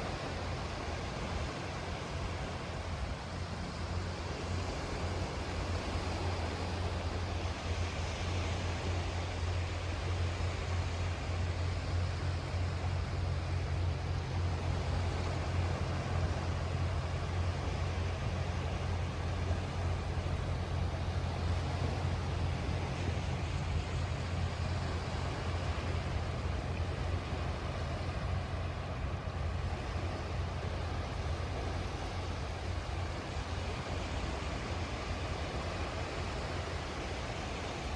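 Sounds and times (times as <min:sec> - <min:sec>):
sea surf with deep rumble: 0:00.0 - 0:37.9.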